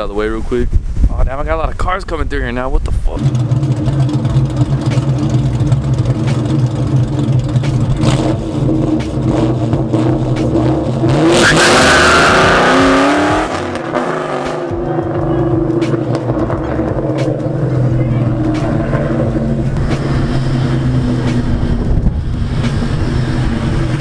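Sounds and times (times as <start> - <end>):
car engine idling: 3.2 - 24.0
car engine revving: 3.2 - 24.0.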